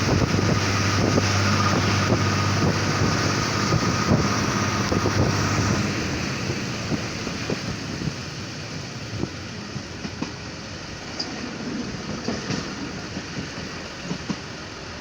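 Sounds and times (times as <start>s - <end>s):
railcar engine hum: 0.0s - 15.0s
wind rush: 0.0s - 15.0s.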